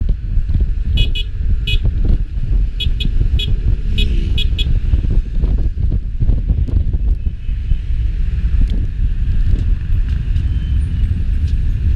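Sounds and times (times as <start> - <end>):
street traffic rumble: 0.0 - 11.9
wind buffeting microphone: 0.0 - 11.9.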